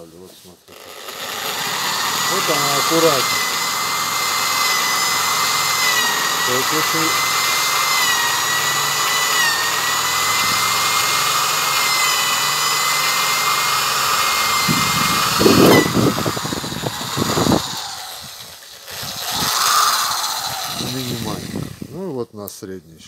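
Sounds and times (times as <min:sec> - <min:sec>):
drill boring into wood: 0:00.7 - 0:22.0.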